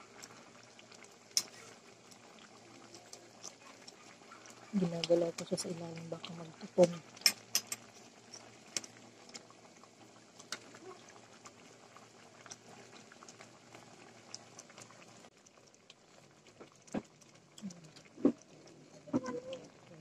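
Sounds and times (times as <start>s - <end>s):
stew simmering with small pops: 0.0s - 20.0s.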